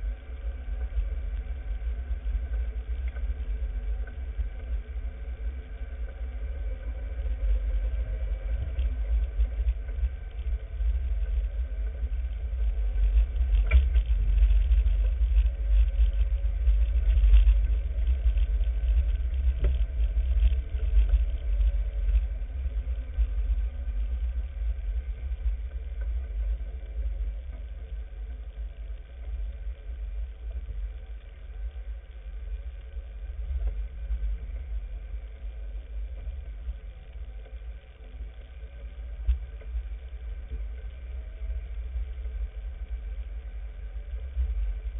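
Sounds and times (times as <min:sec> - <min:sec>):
vehicle engine rumble: 0:00.0 - 0:44.9.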